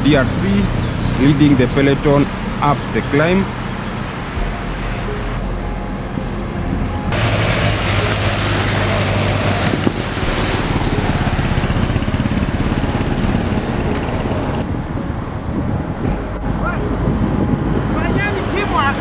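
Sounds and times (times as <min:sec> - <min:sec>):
low engine hum: 0:00.0 - 0:19.0
road noise: 0:00.0 - 0:19.0
wind rushing over microphone: 0:00.0 - 0:19.0.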